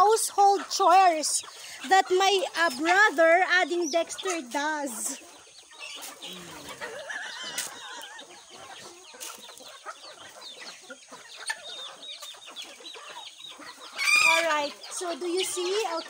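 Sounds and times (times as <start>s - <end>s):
chickens clucking and calling: 0.0s - 16.0s.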